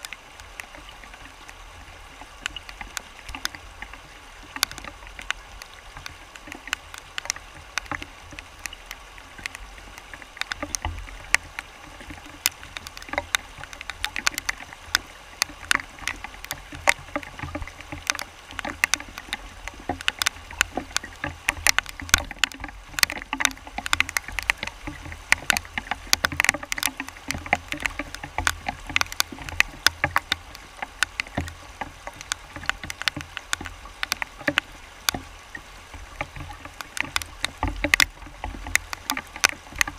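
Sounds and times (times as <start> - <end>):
river rapids rushing over rocks: 0.0 - 39.9
water splashing: 0.0 - 39.9.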